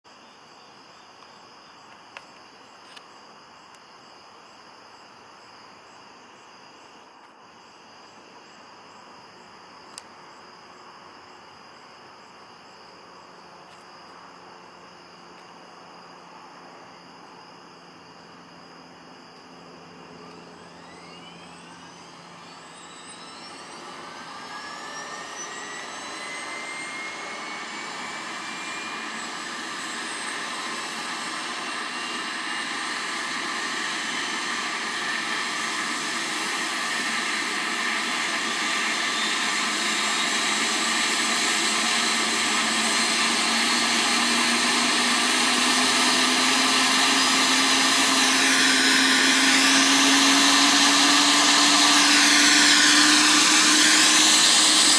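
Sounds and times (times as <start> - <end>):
helicopter turbine whine: 0.1 - 54.9.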